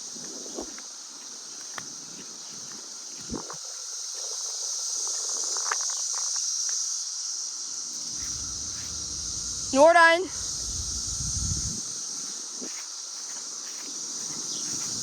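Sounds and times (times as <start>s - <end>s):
high-pitched insect drone: 2.0s - 15.0s.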